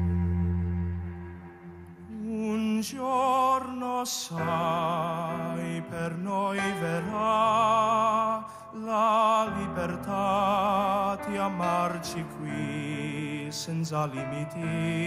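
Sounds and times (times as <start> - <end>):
man singing with vibrato: 2.1 - 15.0.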